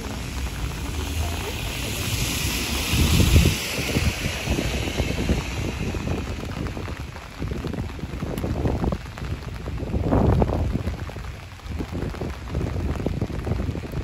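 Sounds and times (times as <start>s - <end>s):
light rain on pavement: 0.0s - 14.0s
wind on microphone: 0.0s - 14.0s.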